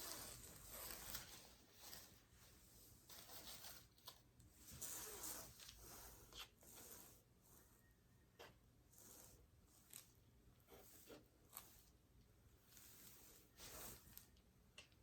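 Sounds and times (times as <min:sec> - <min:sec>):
rubbing and scraping: 0:00.0 - 0:07.8, 0:08.4 - 0:12.0, 0:12.6 - 0:14.4.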